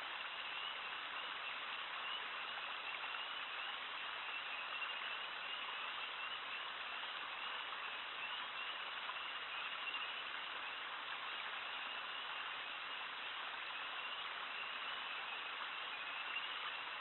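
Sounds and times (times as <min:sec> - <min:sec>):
water rushing through a dam: 0:00.0 - 0:17.0.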